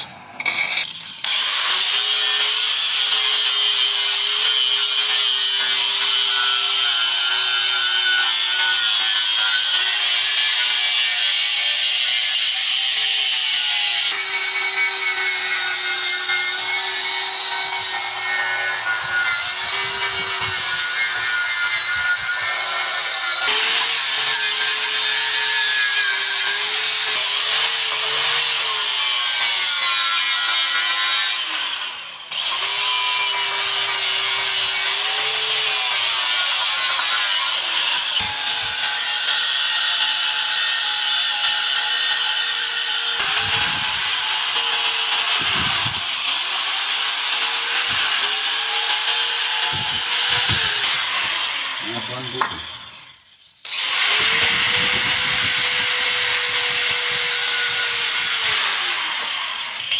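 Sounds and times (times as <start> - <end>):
electric grinder rasping: 0.0 - 59.9.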